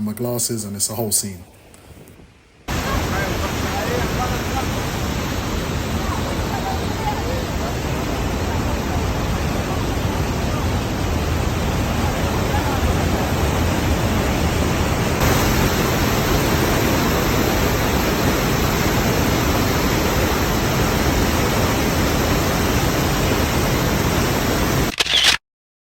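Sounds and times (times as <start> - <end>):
waterfall rushing: 2.7 - 24.9.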